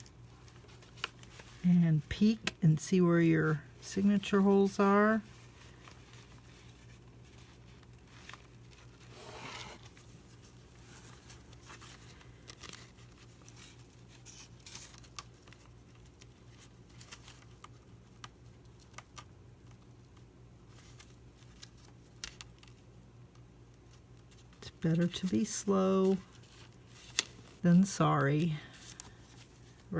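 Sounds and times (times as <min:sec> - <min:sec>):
paper rustling: 0:00.0 - 0:02.6, 0:03.2 - 0:19.9, 0:23.8 - 0:29.9.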